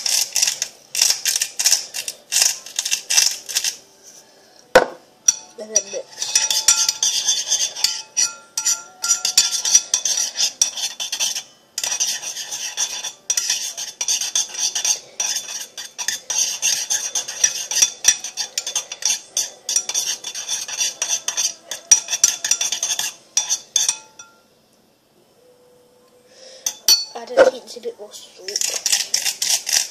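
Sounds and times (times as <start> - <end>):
utensil scraping ceramic bowl: 0.0 - 3.8, 4.8 - 24.4, 27.2 - 27.7, 28.4 - 29.9.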